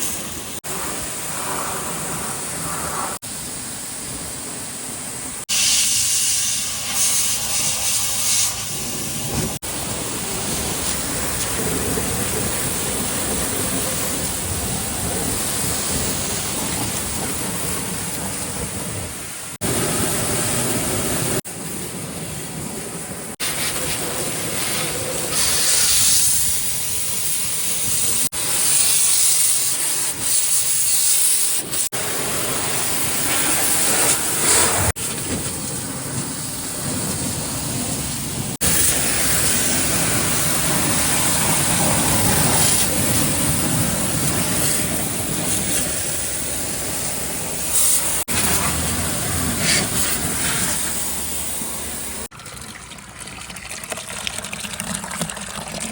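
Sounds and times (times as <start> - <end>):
water jet spraying hiss: 0.0 - 52.3.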